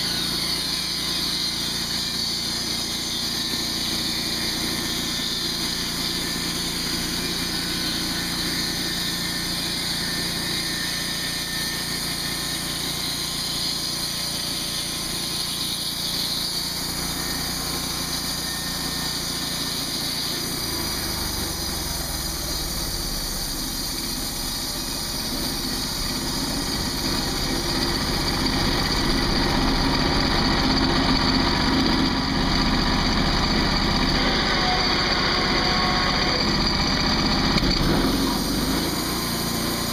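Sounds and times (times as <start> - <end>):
band blade sawing wood: 0.0 - 36.7, 37.5 - 39.9
sawmill engine running: 0.0 - 39.9.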